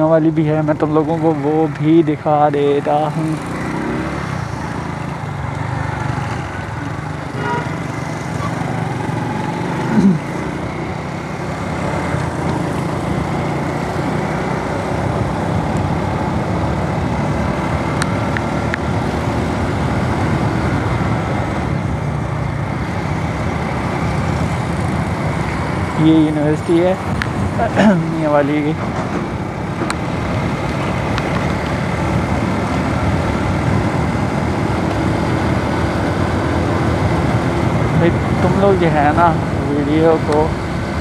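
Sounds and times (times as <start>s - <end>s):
motorcycle engine cruising: 0.0s - 41.0s
wind and road noise: 0.0s - 41.0s.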